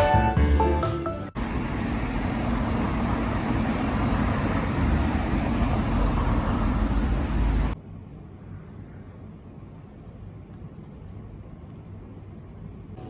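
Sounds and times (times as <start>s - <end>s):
rumbling vehicle noise: 1.0s - 13.0s.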